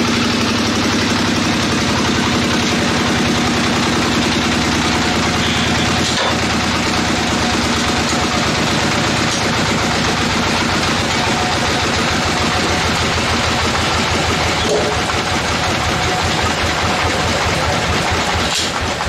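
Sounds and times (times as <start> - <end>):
sawmill engine drone: 0.0 - 19.0.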